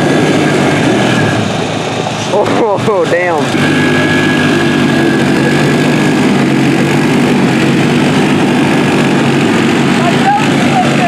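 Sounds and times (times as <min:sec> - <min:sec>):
small engines at full throttle: 0:00.0 - 0:11.0.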